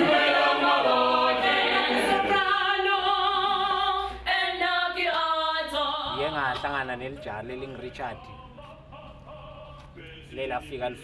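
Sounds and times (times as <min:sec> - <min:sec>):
choir singing a cappella: 0:00.0 - 0:06.7, 0:07.8 - 0:11.0.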